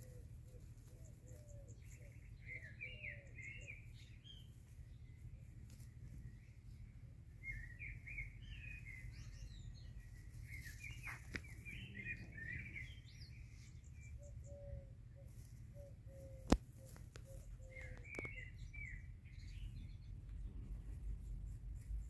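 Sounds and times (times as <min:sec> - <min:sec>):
faint low rumble: 0:00.0 - 0:22.0
small birds chirping: 0:00.0 - 0:22.0.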